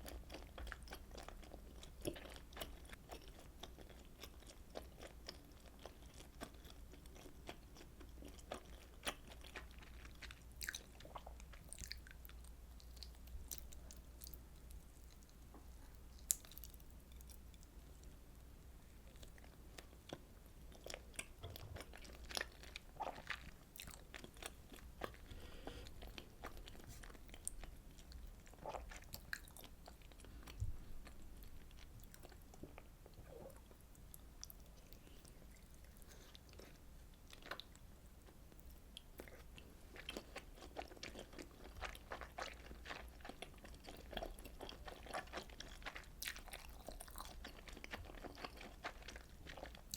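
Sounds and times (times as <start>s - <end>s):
person chewing food: 0.0s - 18.2s, 19.0s - 49.9s.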